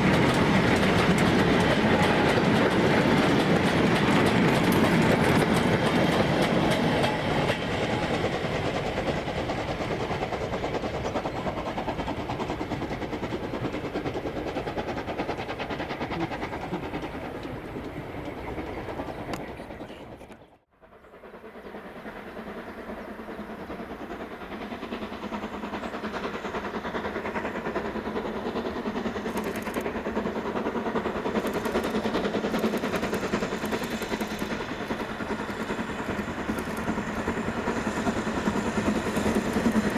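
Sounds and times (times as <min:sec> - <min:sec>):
steam train approaching: 0:00.0 - 0:39.9
steam train running past: 0:00.0 - 0:39.9.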